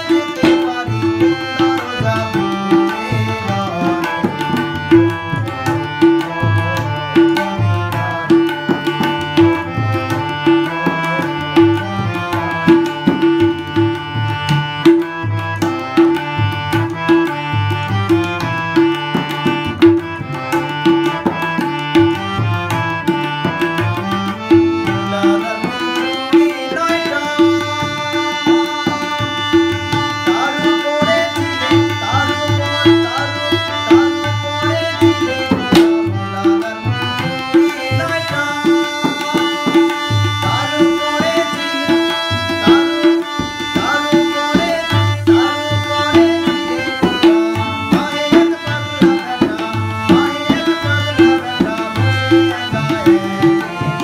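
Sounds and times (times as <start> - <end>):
harmonium melody: 0.0 - 54.0
tabla beat: 0.0 - 54.0.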